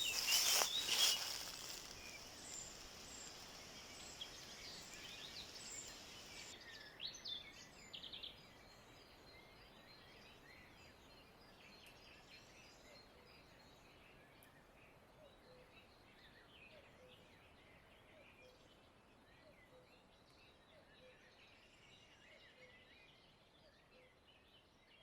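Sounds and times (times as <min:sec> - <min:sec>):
faint bird chirps: 0:00.0 - 0:24.4.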